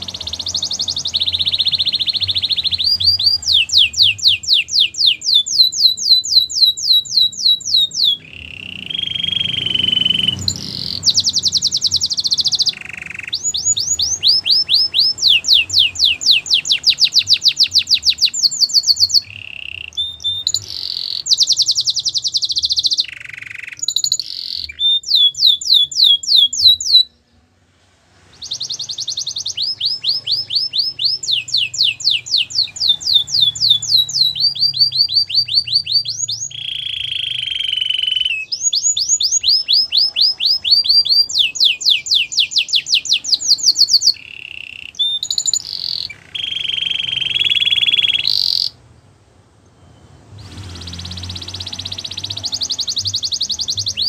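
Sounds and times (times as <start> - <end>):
canary singing trills: 0.0 - 27.5, 28.2 - 49.0, 49.6 - 54.0.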